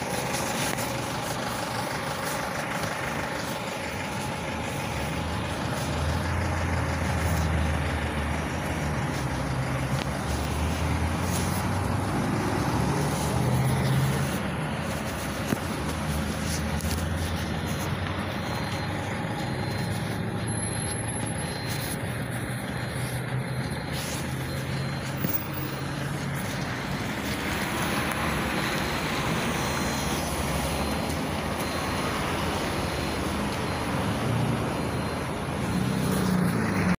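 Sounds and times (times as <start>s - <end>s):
minibus engine running: 0.0s - 37.0s
street traffic hissing past: 0.0s - 37.0s.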